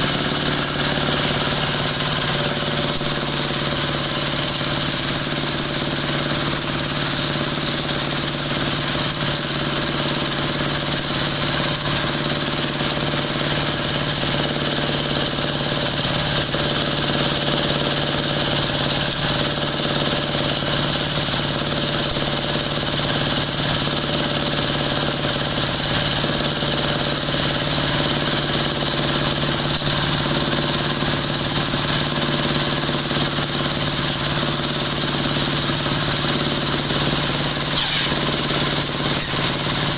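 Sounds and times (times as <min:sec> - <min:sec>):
dowel machine whirring: 0:00.0 - 0:39.9.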